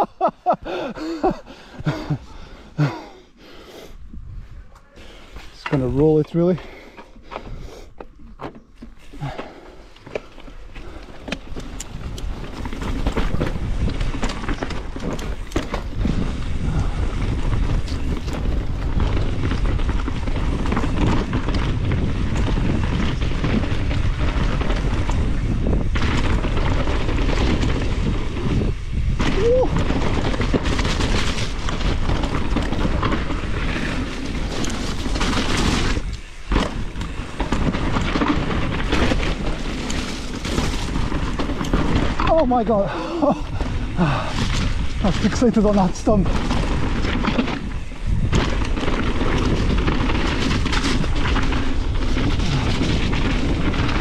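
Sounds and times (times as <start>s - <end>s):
bike rattling and knocking: 0.0s - 3.0s, 5.3s - 54.0s
wind buffeting microphone: 3.9s - 8.0s, 10.6s - 54.0s.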